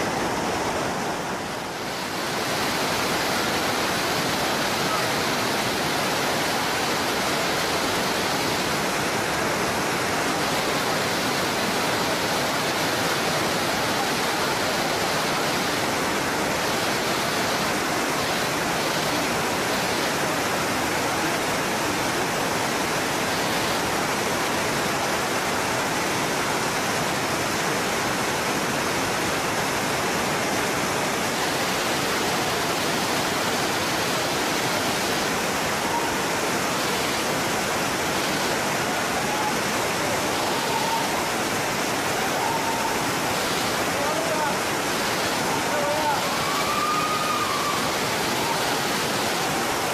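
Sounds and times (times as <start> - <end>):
waterfall rushing over rock: 0.0 - 49.9.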